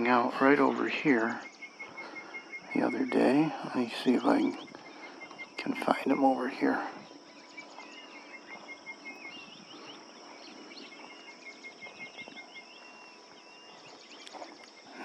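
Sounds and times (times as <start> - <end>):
insects droning: 0.0 - 15.0
small birds chirping: 0.0 - 15.0.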